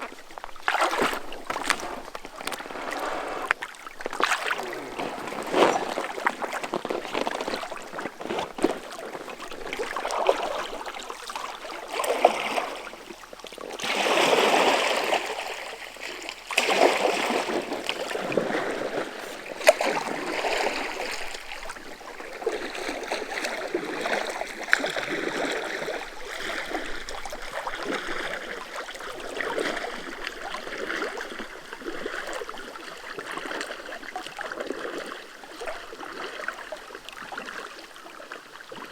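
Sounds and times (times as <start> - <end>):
paddle splashing through water: 0.0 - 38.9.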